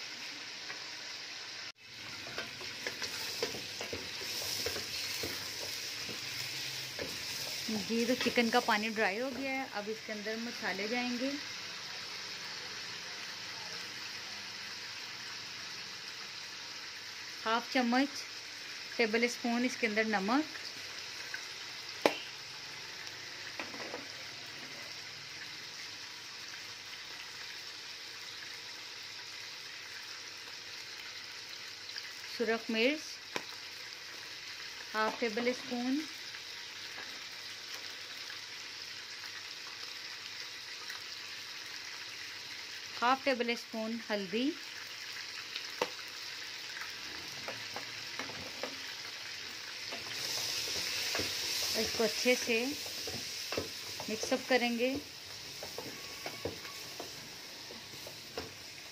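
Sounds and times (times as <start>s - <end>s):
chicken sizzling in oil: 0.0s - 58.9s.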